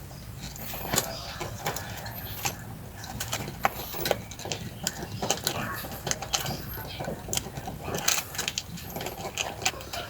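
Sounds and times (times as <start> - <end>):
plastic parts clicking: 0.4 - 10.0.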